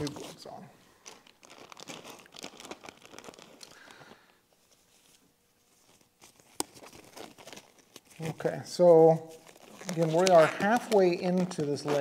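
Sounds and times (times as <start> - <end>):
cloth gloves rustling: 0.0 - 12.0.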